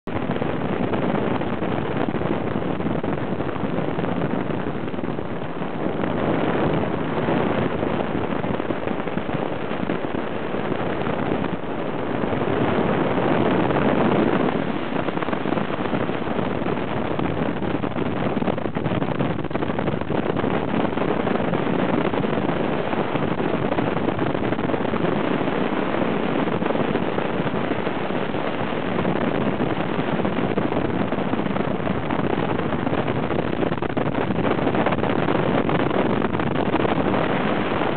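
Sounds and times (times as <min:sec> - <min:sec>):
wind rushing over microphone: 0:00.0 - 0:37.9
light aircraft engine and propeller: 0:00.1 - 0:37.9.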